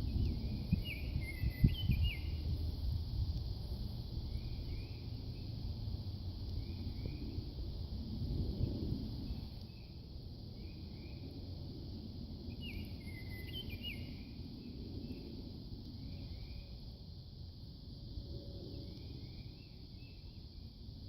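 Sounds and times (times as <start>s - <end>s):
high insect-like hiss: 0.0s - 21.0s.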